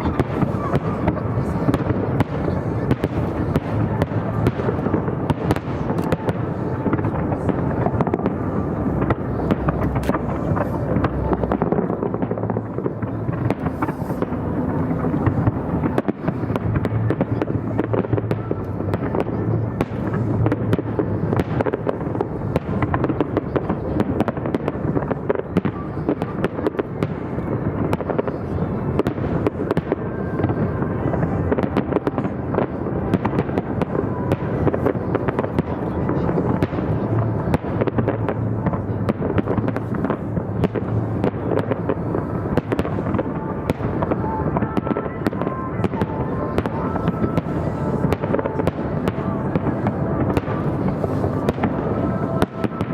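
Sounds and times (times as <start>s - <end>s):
faint music: 0.0s - 52.9s
fireworks bangs and crackles: 0.0s - 52.9s.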